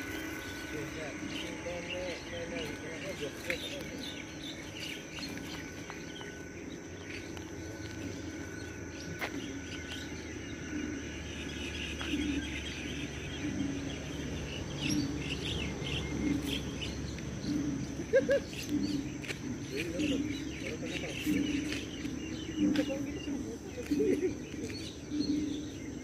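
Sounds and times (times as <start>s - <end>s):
bird chirps: 0.0s - 26.0s
high-pitched insect drone: 0.0s - 26.0s.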